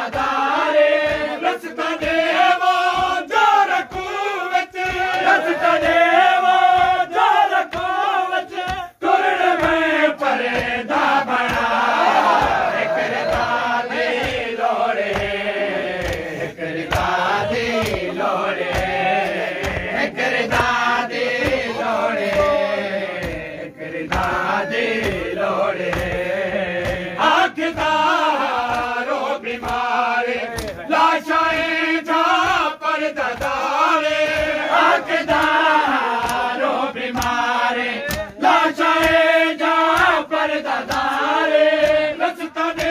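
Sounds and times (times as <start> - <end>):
men chanting a lament: 0.0 - 42.9.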